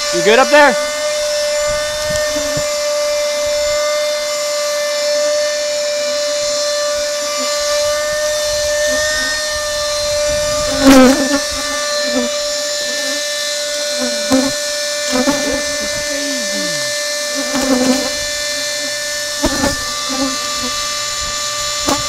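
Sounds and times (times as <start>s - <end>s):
small motor whining: 0.0s - 22.0s.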